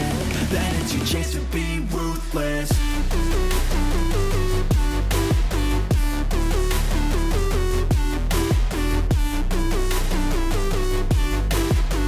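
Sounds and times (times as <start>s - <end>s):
electronic hip-hop beat: 0.0s - 12.0s.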